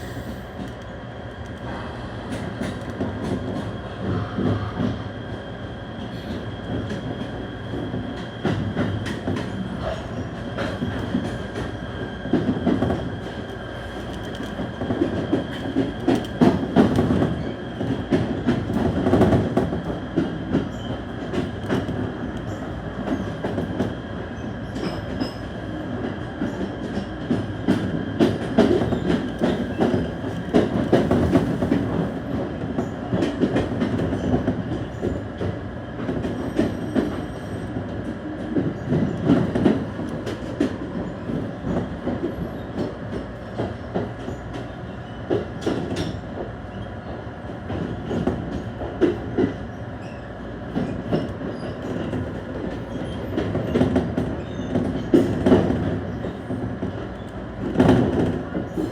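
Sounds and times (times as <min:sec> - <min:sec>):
train wheels rumbling on rail: 0:00.0 - 0:58.9.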